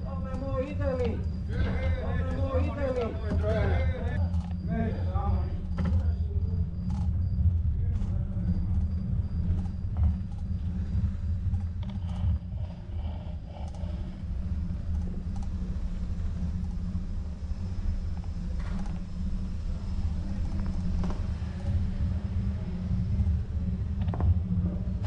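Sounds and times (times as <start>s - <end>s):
wind and road rumble: 0.0s - 25.0s.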